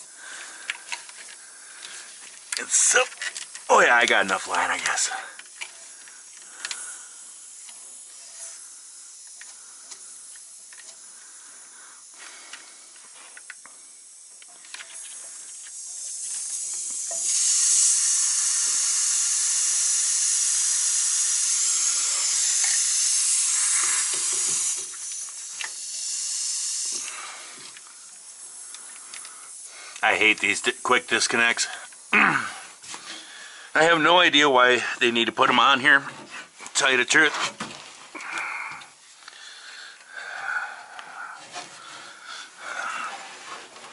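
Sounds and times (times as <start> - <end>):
compressed air hissing: 0.0 - 43.9.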